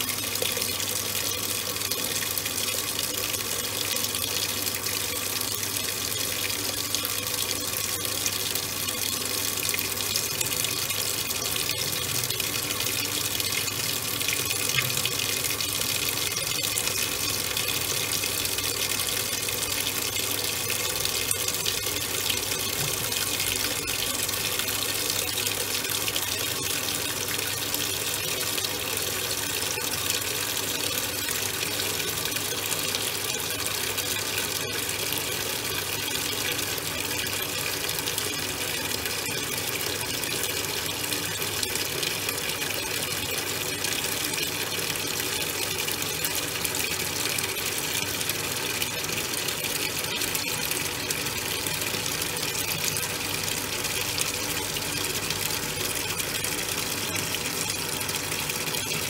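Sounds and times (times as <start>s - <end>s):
water churning in washing machine: 0.0s - 59.0s.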